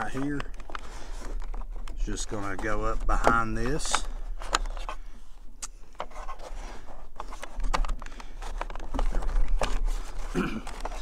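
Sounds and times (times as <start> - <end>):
clicks taps and scrapes of parts: 0.0 - 5.0, 7.1 - 11.0.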